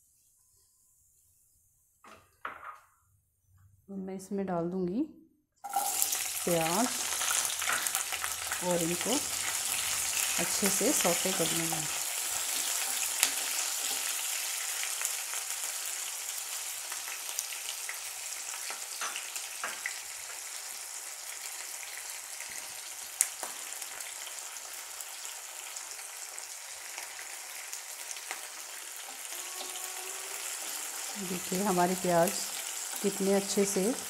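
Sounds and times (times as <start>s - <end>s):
onions sizzling in oil: 5.6s - 34.0s.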